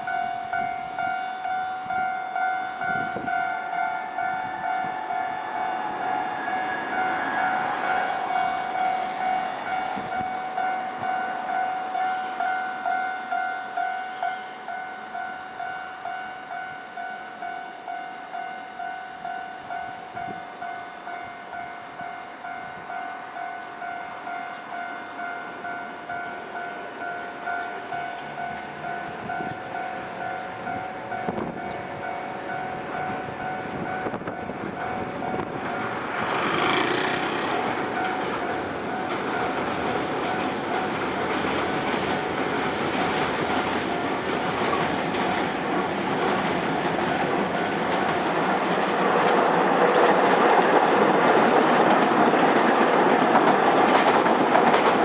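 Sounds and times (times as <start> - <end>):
level crossing warning bell: 0.0 - 55.0
train passing: 0.0 - 55.0.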